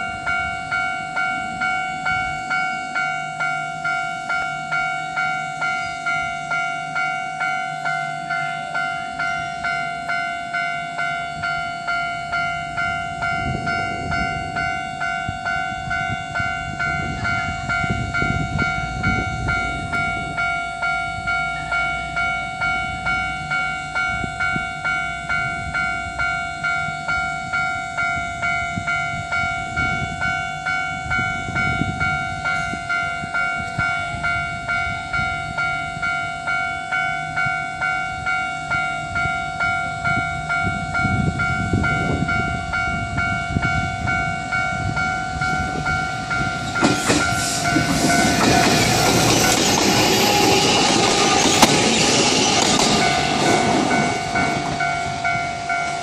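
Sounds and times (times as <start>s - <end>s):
level crossing bell clanging: 0.0s - 56.0s
train passing loudly: 0.0s - 56.0s.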